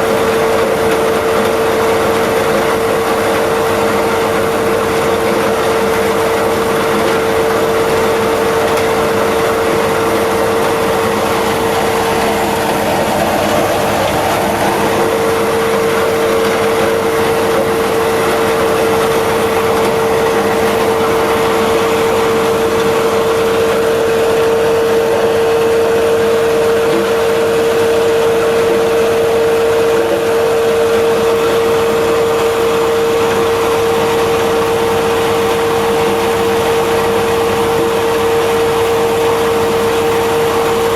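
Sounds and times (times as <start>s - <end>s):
crusher mill running: 0.0s - 40.9s.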